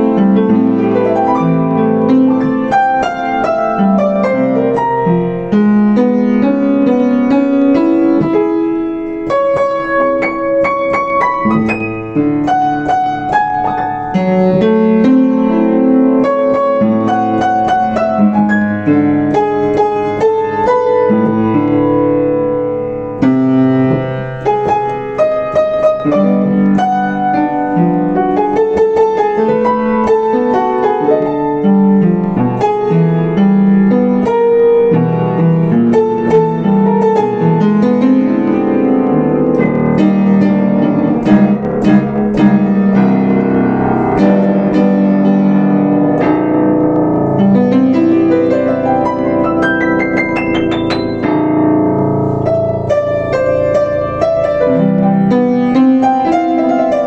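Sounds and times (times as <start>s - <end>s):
solo piano: 0.0s - 57.0s.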